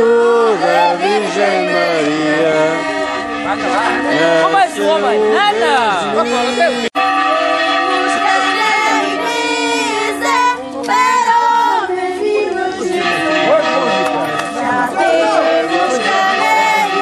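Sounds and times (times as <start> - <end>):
music with voices singing: 0.0 - 17.0.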